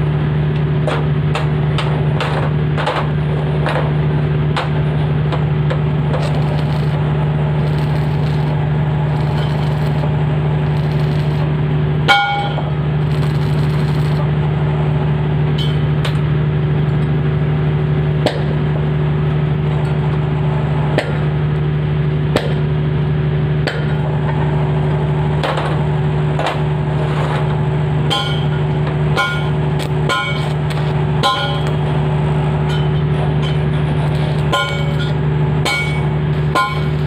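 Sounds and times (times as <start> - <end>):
machine humming loudly: 0.0 - 37.0.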